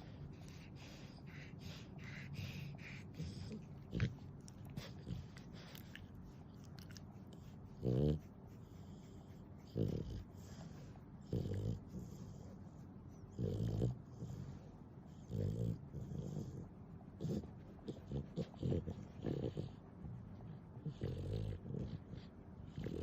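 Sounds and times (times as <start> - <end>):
pet snoring and snorting: 0.4 - 6.0, 7.6 - 12.6, 13.3 - 19.8, 20.8 - 23.0.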